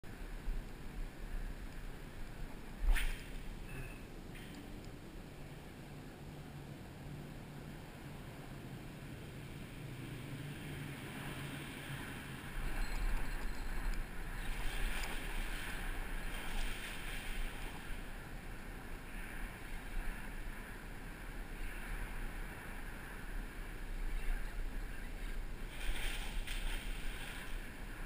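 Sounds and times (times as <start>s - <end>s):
wind buffeting microphone: 0.1s - 28.0s.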